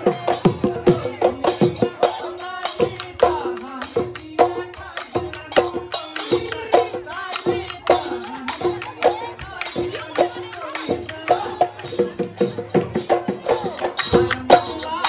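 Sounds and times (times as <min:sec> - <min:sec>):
brisk drum beat: 0:00.0 - 0:15.0
person singing folk song: 0:00.0 - 0:15.0
rattling percussion: 0:00.0 - 0:15.0.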